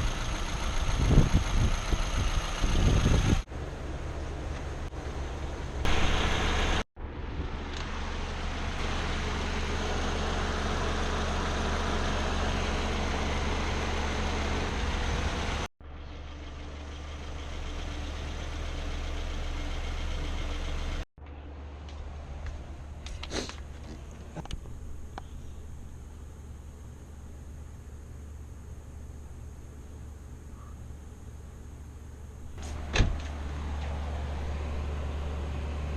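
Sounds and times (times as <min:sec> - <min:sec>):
car engine idling: 0:00.0 - 0:06.8, 0:07.5 - 0:35.9.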